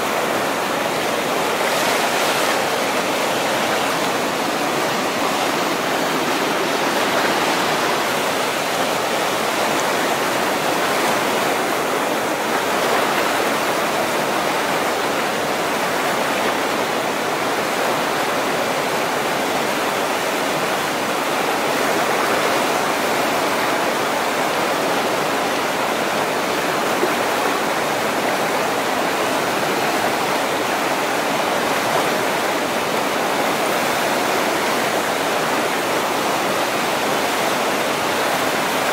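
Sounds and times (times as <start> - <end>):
whitewater rapids rushing: 0.0 - 38.9.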